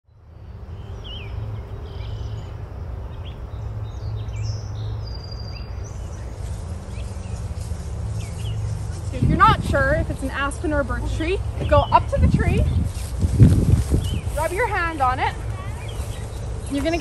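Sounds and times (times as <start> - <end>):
small birds chirping: 0.1 - 17.0
wind rumble on microphone: 0.8 - 17.0.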